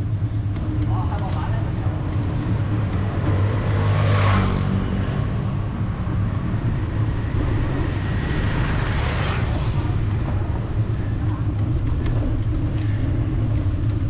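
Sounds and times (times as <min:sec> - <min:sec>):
road noise: 0:00.0 - 0:14.0
vehicle engines humming: 0:00.0 - 0:14.0.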